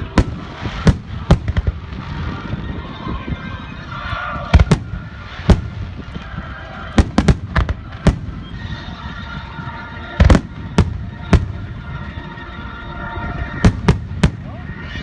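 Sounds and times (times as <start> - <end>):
fireworks bangs: 0.0 - 15.0
steady background noise: 0.0 - 15.0.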